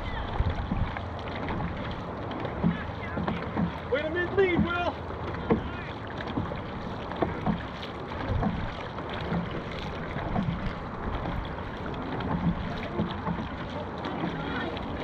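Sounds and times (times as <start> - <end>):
water splashing around paddled boat: 0.0 - 15.0.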